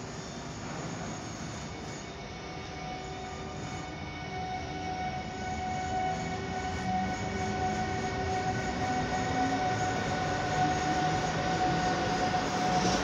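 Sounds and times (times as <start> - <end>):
electric locomotive whine: 0.0 - 13.0
train rumbling past: 0.0 - 13.0.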